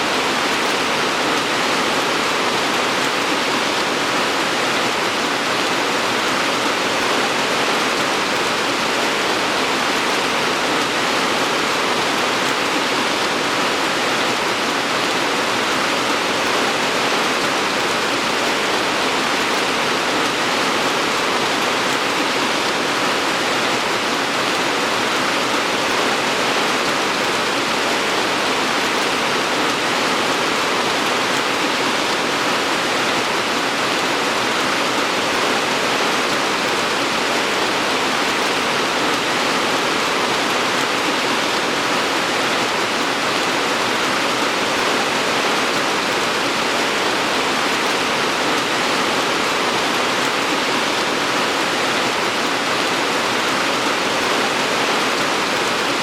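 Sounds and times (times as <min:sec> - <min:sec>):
heavy rainfall: 0:00.0 - 0:56.0.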